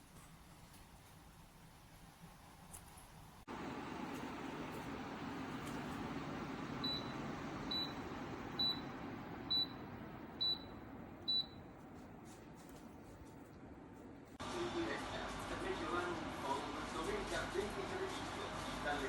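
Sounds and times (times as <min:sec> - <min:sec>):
tower fan airflow: 0:00.0 - 0:19.0.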